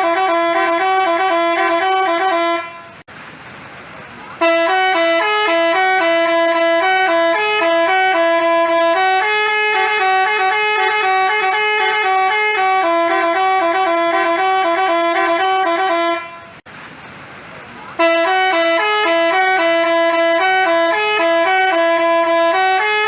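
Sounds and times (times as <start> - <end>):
multi-tone bus horn melody: 0.0 - 3.1, 4.4 - 16.7, 18.0 - 23.0.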